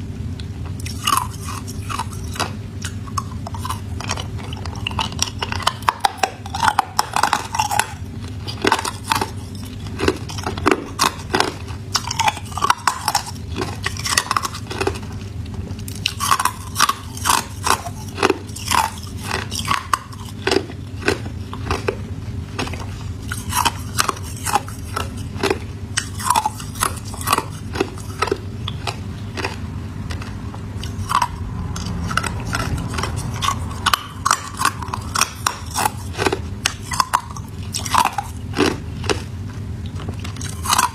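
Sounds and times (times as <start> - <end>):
person chewing ice: 0.7 - 40.9.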